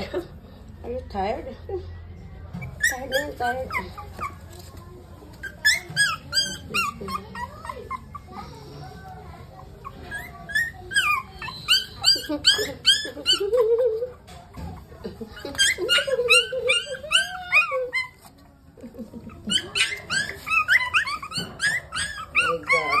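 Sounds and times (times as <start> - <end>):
puppies squealing: 2.6 - 4.7, 5.4 - 8.8, 9.6 - 23.0
puppy whining: 2.6 - 23.0.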